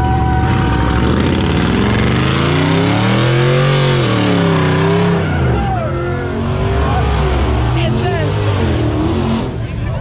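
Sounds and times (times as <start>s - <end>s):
car engine revving hard: 0.5s - 9.6s.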